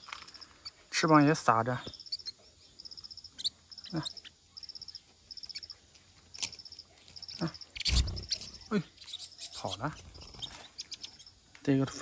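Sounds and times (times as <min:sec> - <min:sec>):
cricket trilling: 0:00.0 - 0:12.0
sharp insect calls: 0:00.0 - 0:12.0.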